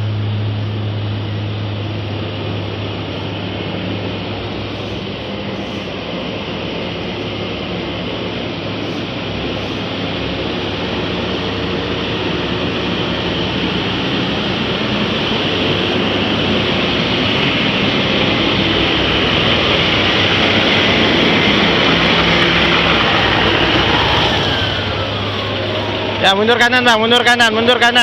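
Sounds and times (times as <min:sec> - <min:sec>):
truck diesel engine under load: 0:00.0 - 0:28.0.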